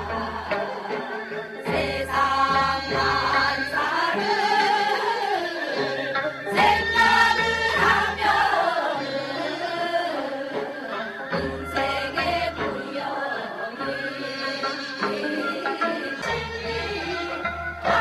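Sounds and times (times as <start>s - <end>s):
group of women singing folk song: 0.0s - 18.0s.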